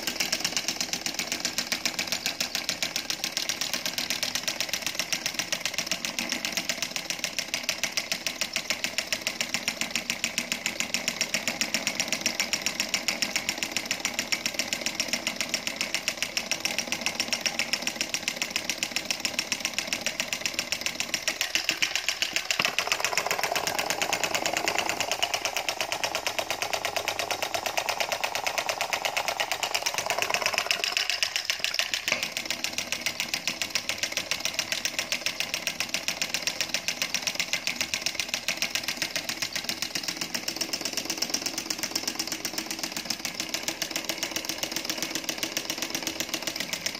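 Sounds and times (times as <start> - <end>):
solenoid engine clattering: 0.0 - 46.9.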